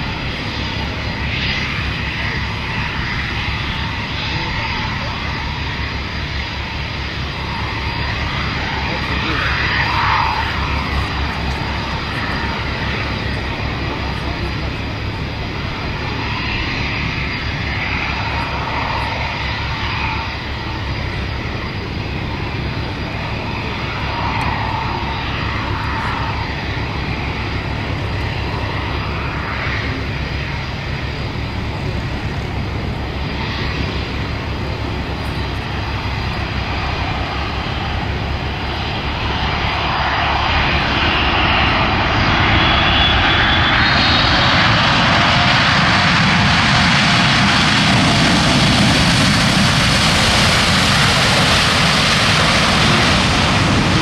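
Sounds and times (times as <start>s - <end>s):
faint engine whine: 0.0s - 54.0s
jet engines roaring: 0.0s - 54.0s.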